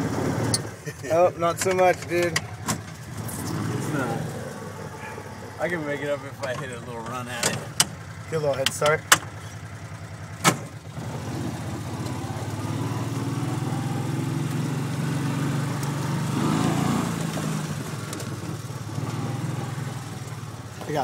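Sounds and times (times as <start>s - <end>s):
vehicle engine accelerating: 0.0s - 21.0s.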